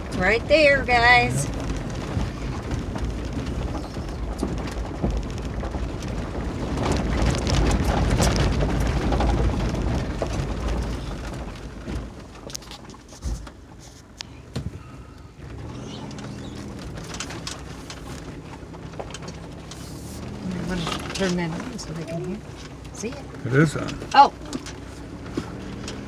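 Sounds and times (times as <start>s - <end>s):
car engine rumble: 0.0s - 26.0s
tyres crunching on gravel: 0.0s - 26.0s.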